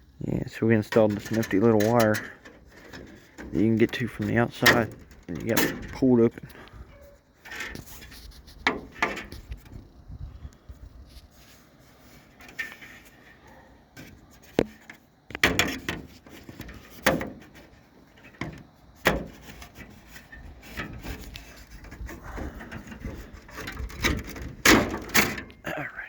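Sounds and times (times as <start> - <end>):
rubbing and scraping: 0.7 - 10.0, 11.0 - 25.5.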